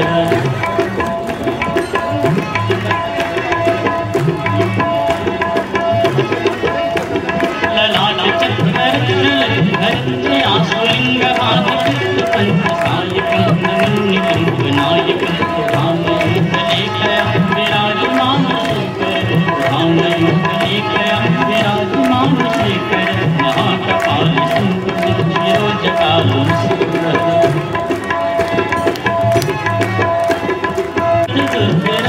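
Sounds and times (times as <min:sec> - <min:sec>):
devotional music with tabla: 0:00.0 - 0:32.0.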